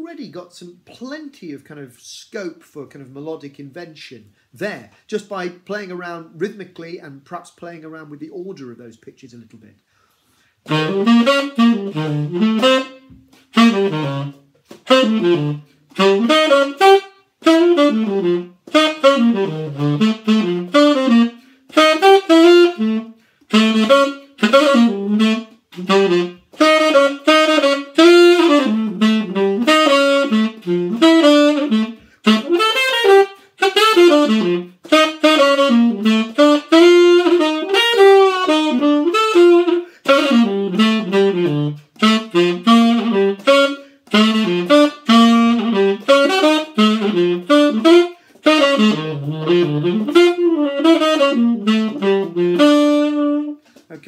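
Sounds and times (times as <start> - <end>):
solo jazz saxophone: 9.9 - 54.0.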